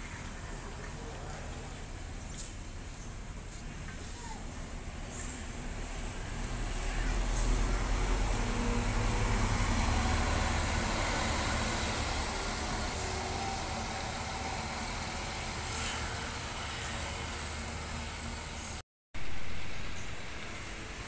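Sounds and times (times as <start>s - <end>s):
diesel bus driving past: 0.0s - 21.0s.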